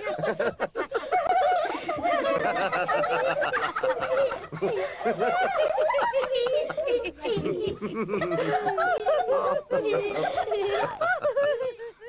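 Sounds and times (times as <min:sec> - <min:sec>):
children chattering and giggling: 0:00.0 - 0:12.0.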